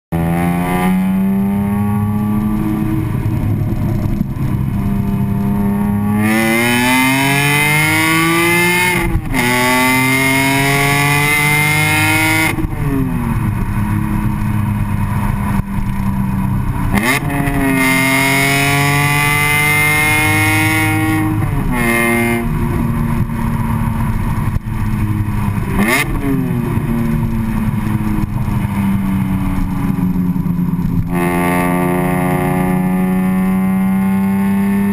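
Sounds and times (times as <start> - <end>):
car exhaust revving: 0.1 - 34.9.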